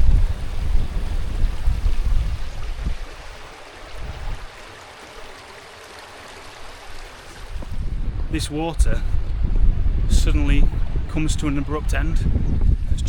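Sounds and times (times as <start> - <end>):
wind rumbling on microphone: 0.0 - 5.3, 6.9 - 13.0
stream water running over rocks: 0.0 - 12.0.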